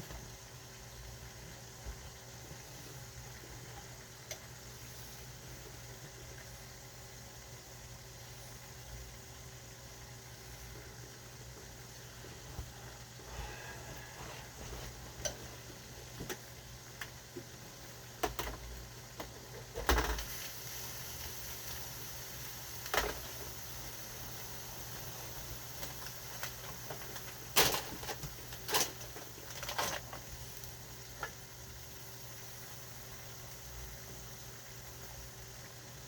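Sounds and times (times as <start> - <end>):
faint sizzle: 0.0 - 36.0.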